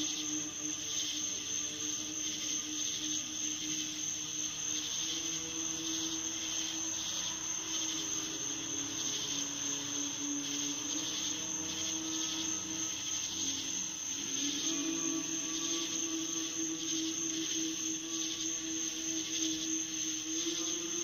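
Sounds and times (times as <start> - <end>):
high hiss: 0.0 - 21.0.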